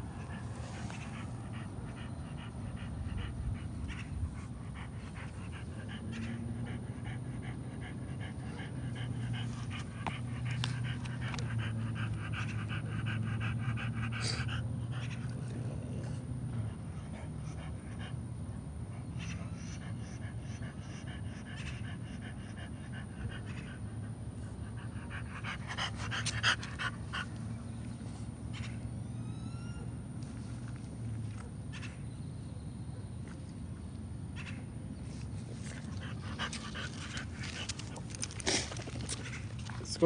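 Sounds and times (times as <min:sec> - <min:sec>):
dog panting: 0:00.0 - 0:28.3, 0:35.2 - 0:40.0.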